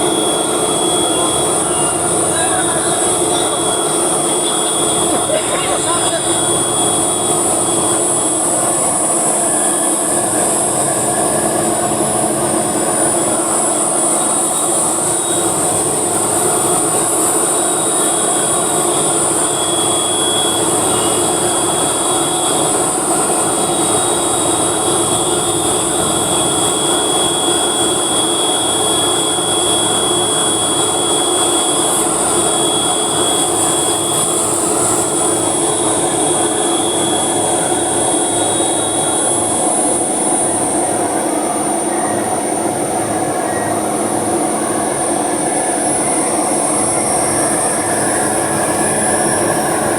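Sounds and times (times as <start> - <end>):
faint steady whine: 0.0 - 49.9
heavy machinery running: 0.0 - 49.9.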